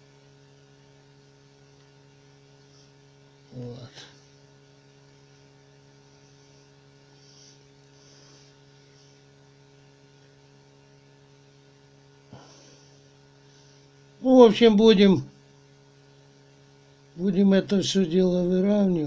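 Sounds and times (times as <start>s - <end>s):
faint electrical mains hum: 0.0s - 19.0s.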